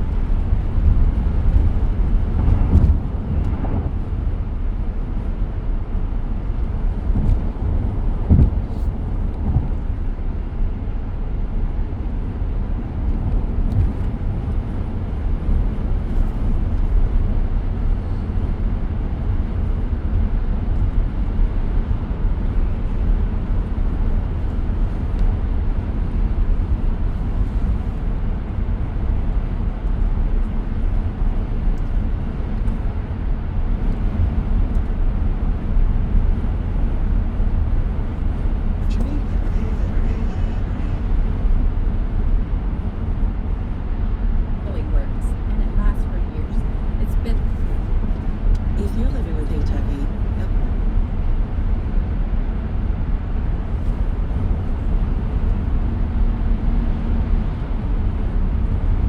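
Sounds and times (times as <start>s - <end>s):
road and tyre noise in car: 0.0s - 59.0s.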